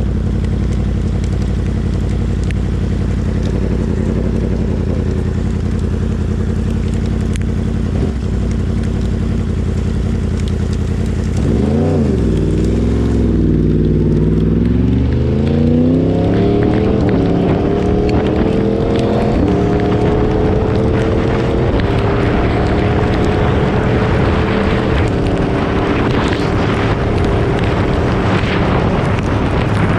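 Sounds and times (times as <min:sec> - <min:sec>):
motorcycle engine revving and accelerating: 0:00.0 - 0:29.9.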